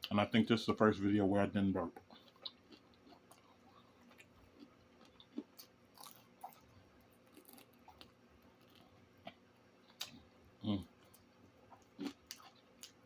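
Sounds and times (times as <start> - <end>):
person chewing: 1.9 - 13.0.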